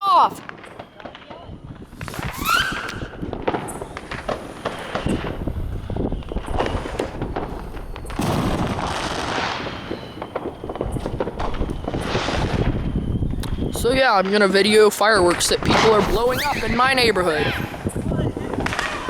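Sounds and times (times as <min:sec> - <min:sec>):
fireworks popping and banging: 0:00.0 - 0:19.0
fireworks hissing burst: 0:01.8 - 0:19.0.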